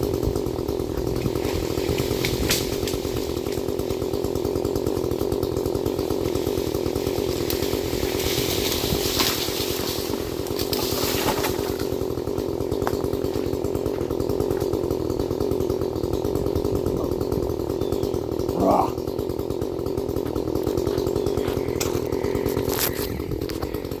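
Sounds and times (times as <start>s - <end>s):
chainsaw engine running: 0.0s - 24.0s.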